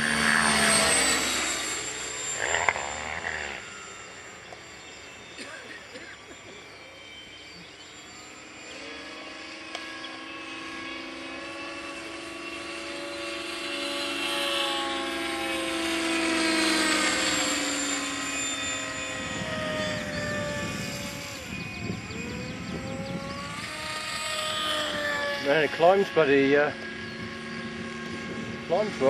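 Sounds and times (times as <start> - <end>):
rc helicopter rotor whine: 0.0 - 29.0.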